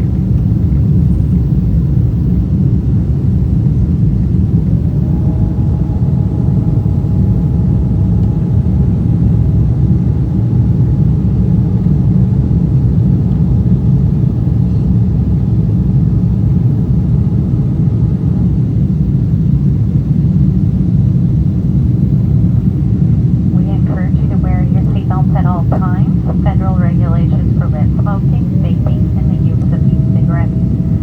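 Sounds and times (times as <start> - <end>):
faint whine: 0.0 - 31.0
jet engine cabin rumble: 0.0 - 31.0.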